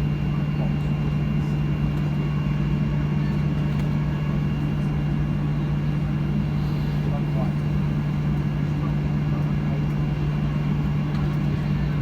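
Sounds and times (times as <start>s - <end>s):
airplane cabin drone: 0.0s - 12.0s
faint high engine whine: 0.0s - 12.0s.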